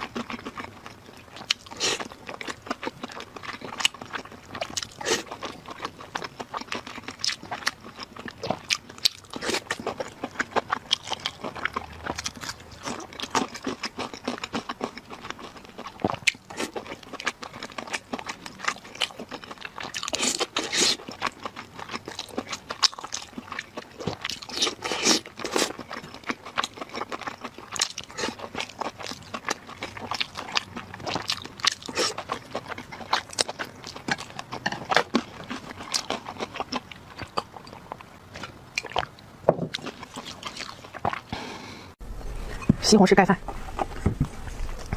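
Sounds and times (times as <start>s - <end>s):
person crunching and chewing: 0.0s - 41.5s.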